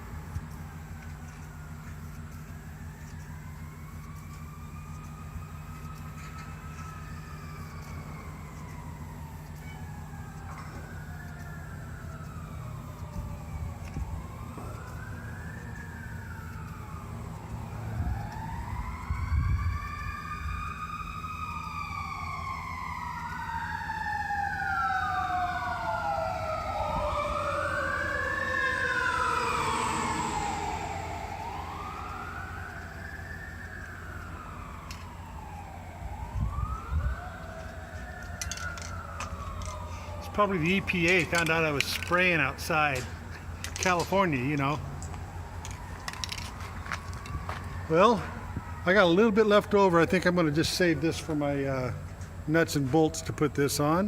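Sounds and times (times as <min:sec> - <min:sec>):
emergency sirens wailing: 0:00.0 - 0:54.0
low traffic rumble: 0:00.0 - 0:54.0.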